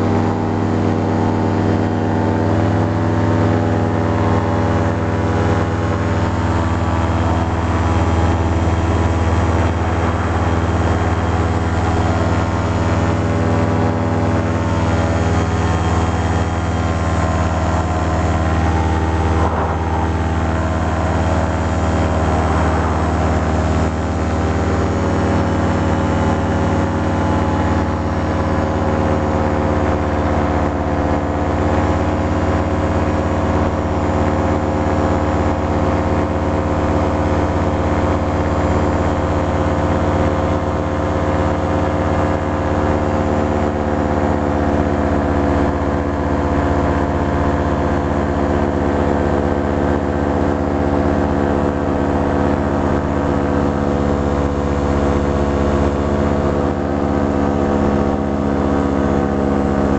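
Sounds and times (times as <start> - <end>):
paramotor engine drone: 0.0 - 59.9.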